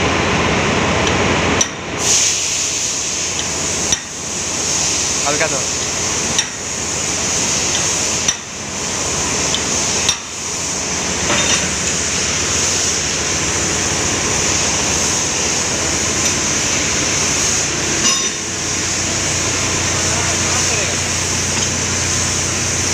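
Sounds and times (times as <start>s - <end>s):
machinery noise with hiss: 0.0s - 22.9s.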